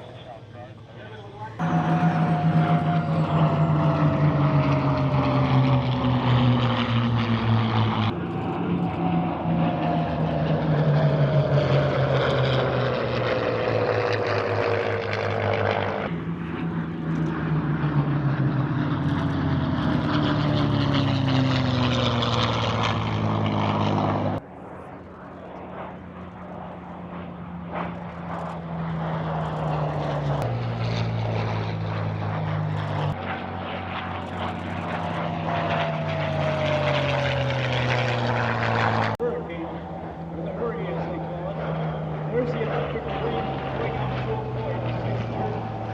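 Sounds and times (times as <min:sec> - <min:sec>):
propeller aircraft passing by: 0:00.0 - 0:45.9.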